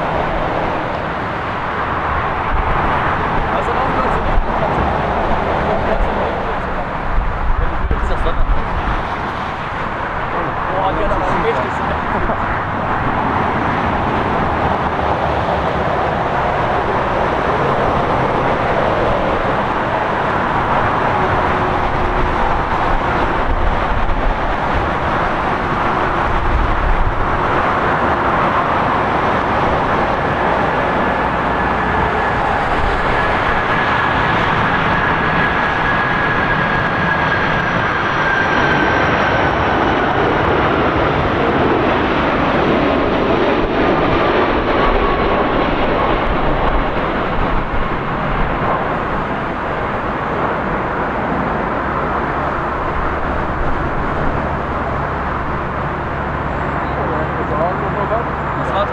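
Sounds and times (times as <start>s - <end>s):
high jet engine whine: 0.0s - 58.9s
jet engines roaring: 0.0s - 58.9s.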